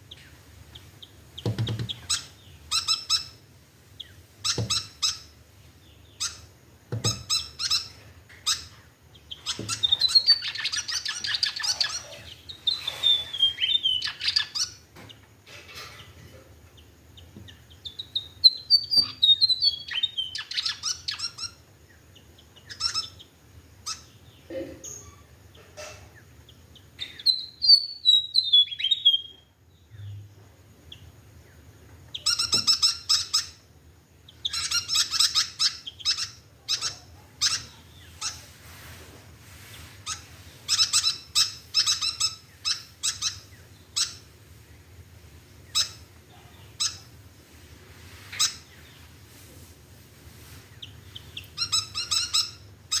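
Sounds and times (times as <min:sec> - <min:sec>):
bird chirping: 0:00.0 - 0:38.6, 0:39.6 - 0:47.4, 0:48.1 - 0:49.3, 0:50.6 - 0:53.0.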